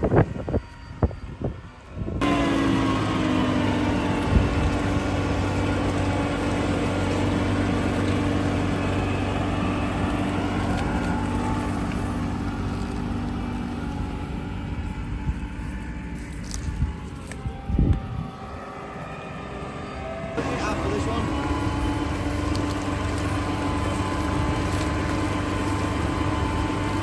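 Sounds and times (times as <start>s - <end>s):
vehicle engine running: 0.0s - 27.0s
wide mechanical noise: 0.0s - 27.0s.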